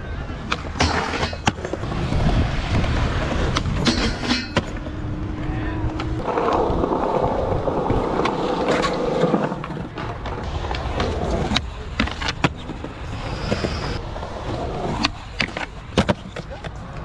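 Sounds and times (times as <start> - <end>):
skateboard wheels rolling on concrete: 0.0 - 17.0
skateboard clacking on ground: 0.4 - 5.0, 5.9 - 17.0.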